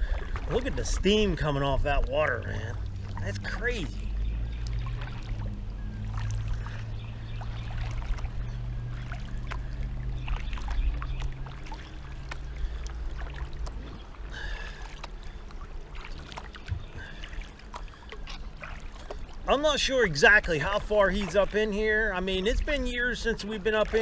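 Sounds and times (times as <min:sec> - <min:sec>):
low steady rumble: 0:00.0 - 0:24.0
paddle blades dipping in water: 0:00.0 - 0:24.0
water dripping and splashing: 0:00.0 - 0:24.0.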